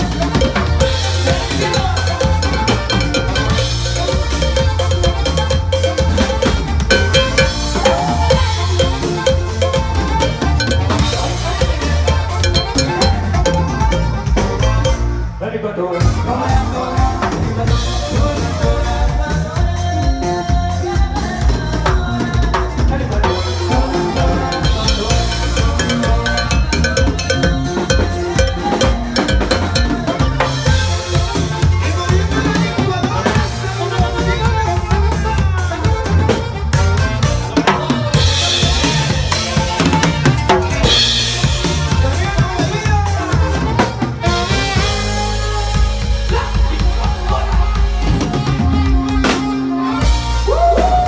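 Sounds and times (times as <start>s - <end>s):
loud drum kit: 0.0s - 15.4s, 16.0s - 51.0s
instrumental band music: 0.0s - 51.0s.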